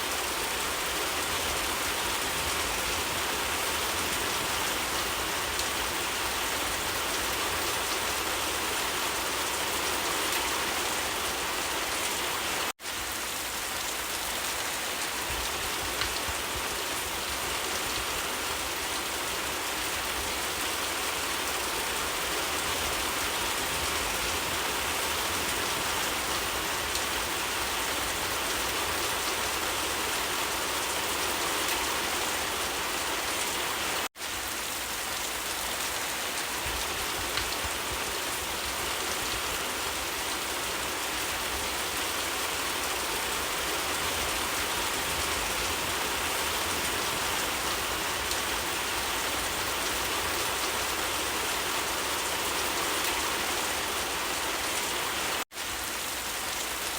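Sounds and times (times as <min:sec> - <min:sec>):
dense rain hiss: 0:00.0 - 0:56.9.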